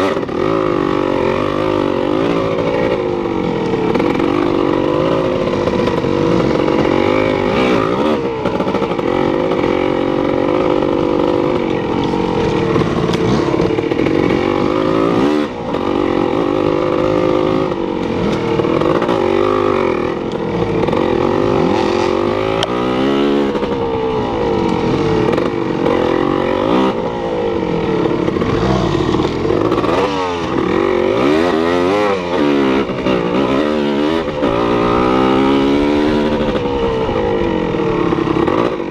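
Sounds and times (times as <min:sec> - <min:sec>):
vehicle engine revving: 0:00.0 - 0:38.9.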